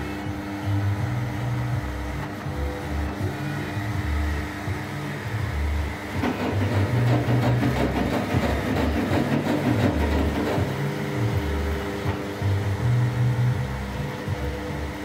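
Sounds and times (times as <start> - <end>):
cooling fans humming: 0.0 - 15.0.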